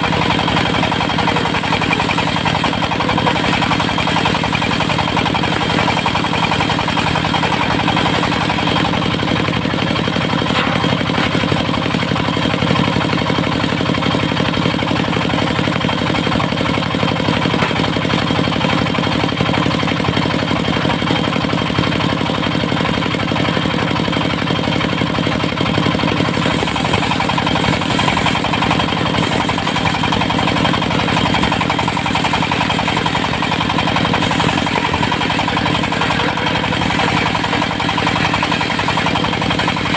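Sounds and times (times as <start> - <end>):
diesel engine drone: 0.0 - 39.9
saw blade whining through log: 0.0 - 39.9.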